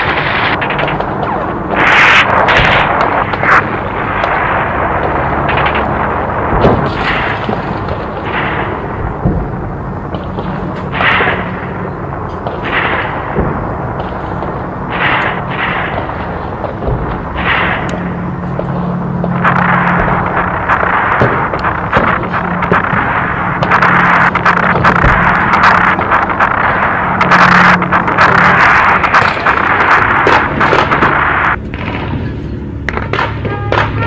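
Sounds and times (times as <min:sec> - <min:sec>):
artillery explosions: 0:00.0 - 0:34.0
gunfire rumble with sharp cracks: 0:00.0 - 0:34.0.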